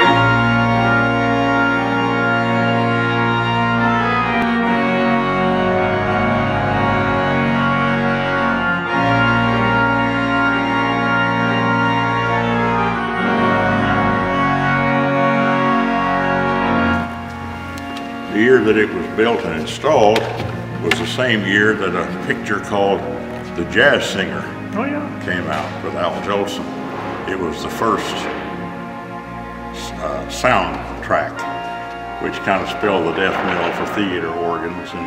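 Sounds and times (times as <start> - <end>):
organ playing sustained chords: 0.0 - 35.0.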